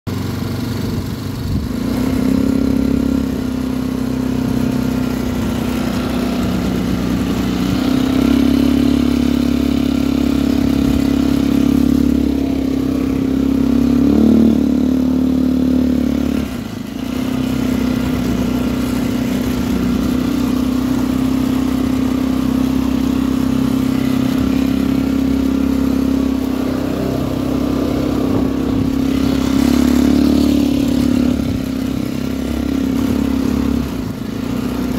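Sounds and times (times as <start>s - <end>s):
quad bike engine running: 0.1s - 34.9s.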